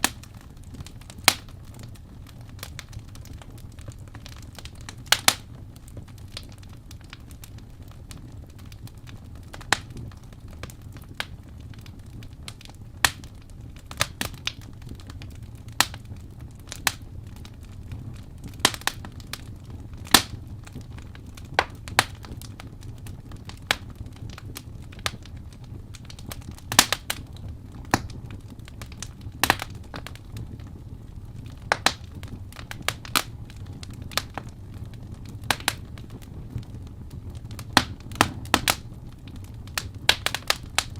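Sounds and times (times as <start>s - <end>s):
fire flames rumbling: 0.0s - 40.9s
logs crackling and popping: 0.0s - 40.9s.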